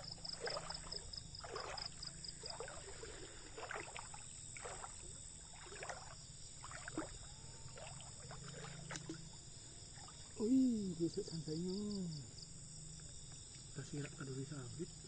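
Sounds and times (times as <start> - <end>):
water splashing: 0.0 - 11.6, 13.4 - 15.0.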